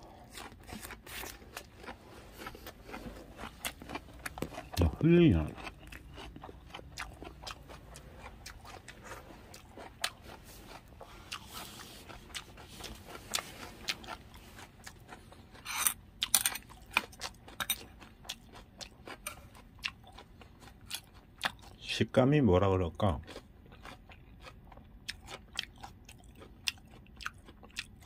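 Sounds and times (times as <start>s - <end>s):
crunchy chewing: 0.0s - 21.9s, 23.1s - 28.0s.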